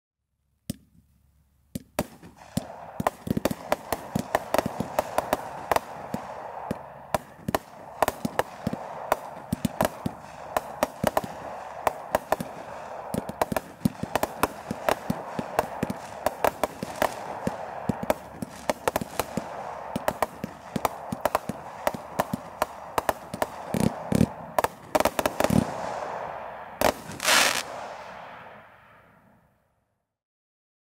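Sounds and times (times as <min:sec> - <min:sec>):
firework crackling hiss: 0:02.0 - 0:29.2
firework reports bursting: 0:02.0 - 0:29.2.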